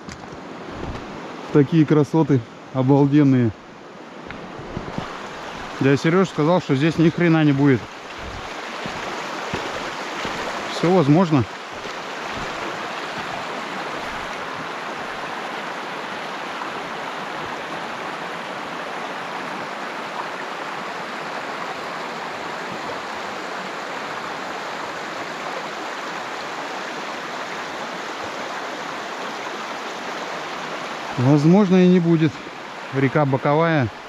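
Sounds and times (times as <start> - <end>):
river running over pebbles: 0.0 - 34.0.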